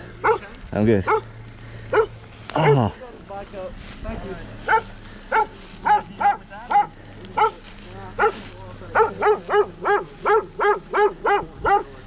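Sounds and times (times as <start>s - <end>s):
dog barking: 0.1s - 2.9s, 4.6s - 12.0s.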